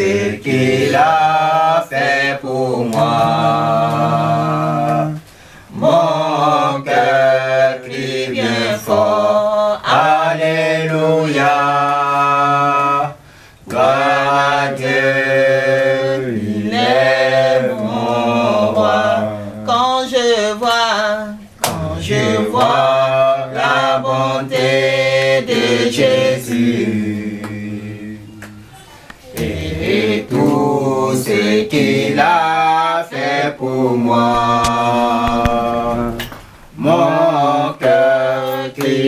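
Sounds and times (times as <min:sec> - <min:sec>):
group singing worship song: 0:00.0 - 0:39.0.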